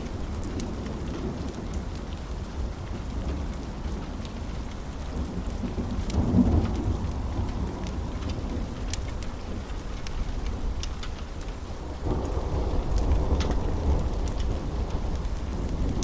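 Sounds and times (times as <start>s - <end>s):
low rolling thunder: 0.0s - 16.0s
steady rain: 0.0s - 16.0s
wood fire crackling pops: 0.0s - 16.0s.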